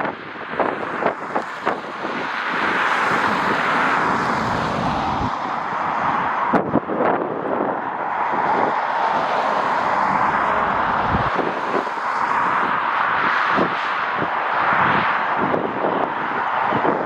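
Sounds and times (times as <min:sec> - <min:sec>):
jet engines roaring: 0:00.0 - 0:17.0
wind buffeting microphone: 0:00.0 - 0:17.0.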